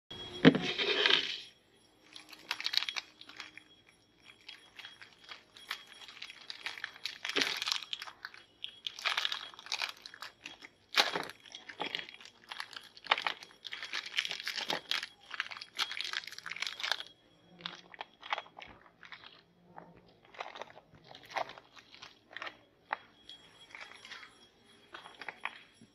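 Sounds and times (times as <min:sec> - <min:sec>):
plastic wrapper crinkling: 0:02.0 - 0:24.3.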